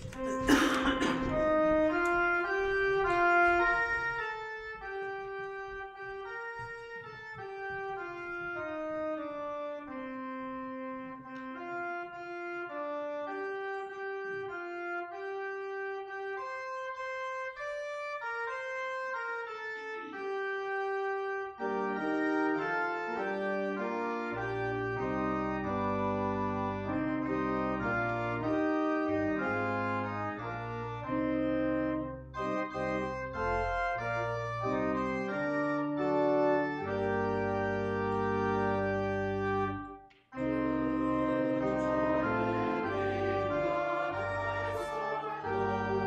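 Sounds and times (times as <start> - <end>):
organ playing a hymn tune: 0.0 - 46.0.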